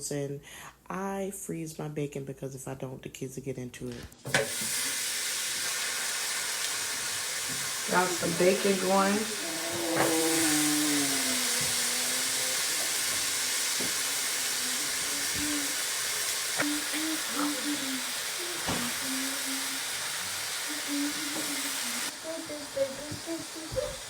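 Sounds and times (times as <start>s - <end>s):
bacon sizzling in a frying pan: 4.3s - 24.0s.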